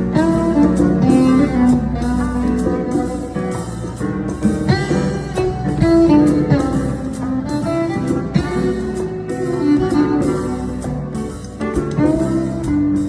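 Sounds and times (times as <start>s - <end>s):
band playing: 0.0s - 13.0s
cello playing jazz melody: 0.0s - 13.0s.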